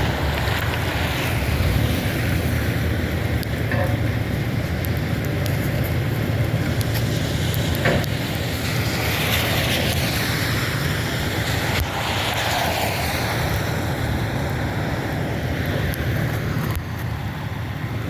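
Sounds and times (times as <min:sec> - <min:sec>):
low engine rumble: 0:00.0 - 0:18.0
tyre hiss of passing vehicles: 0:00.0 - 0:18.0
wind buffeting microphone: 0:00.0 - 0:18.0.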